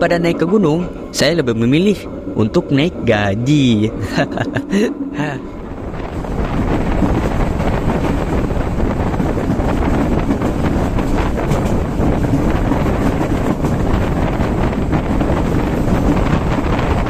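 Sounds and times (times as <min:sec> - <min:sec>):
train running on rails: 0:00.0 - 0:17.0
wind buffeting microphone: 0:00.0 - 0:17.0.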